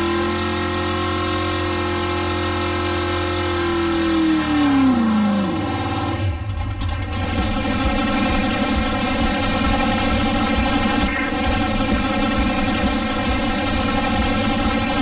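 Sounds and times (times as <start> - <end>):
drag car engine revving: 0.0 - 15.0.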